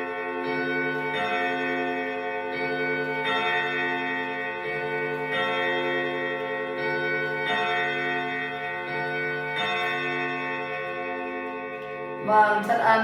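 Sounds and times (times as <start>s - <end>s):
clock chime on gong rods: 0.0s - 13.0s.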